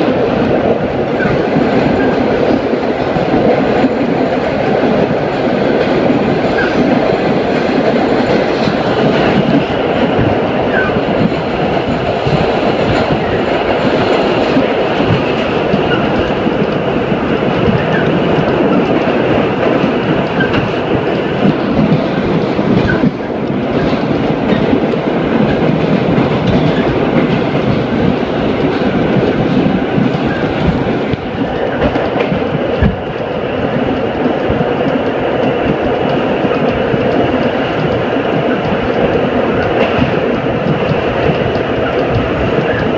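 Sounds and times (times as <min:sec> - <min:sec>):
subway train rumbling in tunnel: 0:00.0 - 0:42.9
wheels clacking over rail joints: 0:00.0 - 0:42.9.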